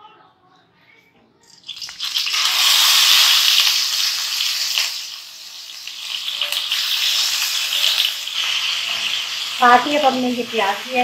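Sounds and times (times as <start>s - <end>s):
paste sizzling in hot oil: 1.6s - 11.0s.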